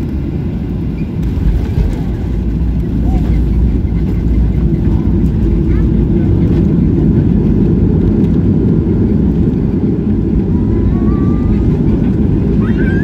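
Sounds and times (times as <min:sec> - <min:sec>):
airliner cabin rumble on runway: 0:00.0 - 0:13.0.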